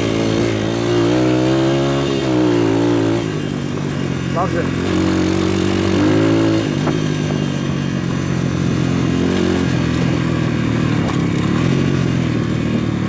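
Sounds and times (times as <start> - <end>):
pit bike engine running: 0.0 - 13.0.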